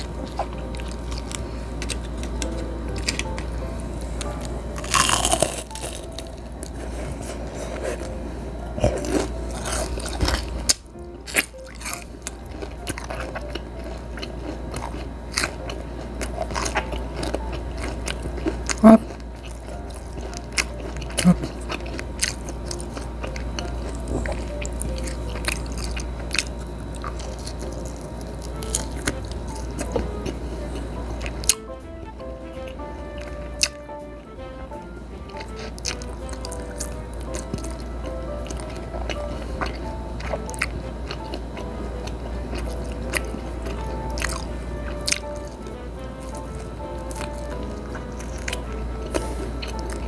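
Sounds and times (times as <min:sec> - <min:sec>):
crunchy chewing: 0:00.0 - 0:34.1, 0:34.8 - 0:50.0
background music: 0:00.0 - 0:50.0.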